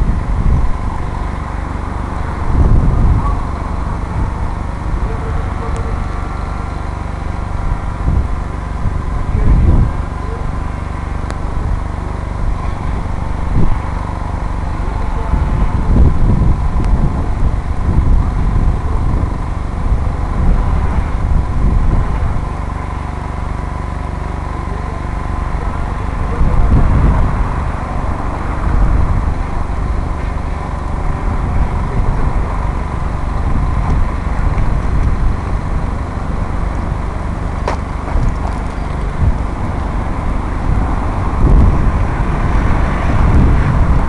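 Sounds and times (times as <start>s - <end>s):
thin steady whine: 0.0s - 44.0s
wind buffeting microphone: 0.0s - 44.0s.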